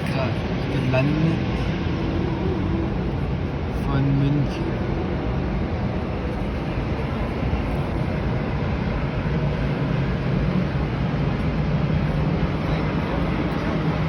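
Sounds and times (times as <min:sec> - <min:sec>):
jet airliner engines rumbling: 0:00.0 - 0:14.0.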